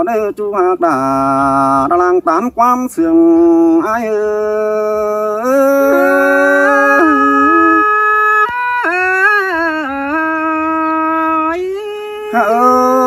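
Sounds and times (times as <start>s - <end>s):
person singing folk song: 0.0s - 13.0s.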